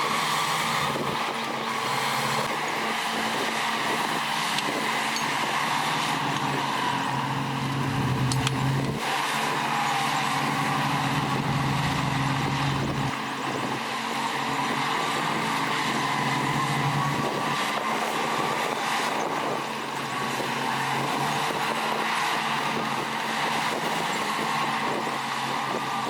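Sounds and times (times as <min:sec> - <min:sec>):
diesel machinery engine running: 0:00.0 - 0:26.0
mechanical whine: 0:00.0 - 0:26.0.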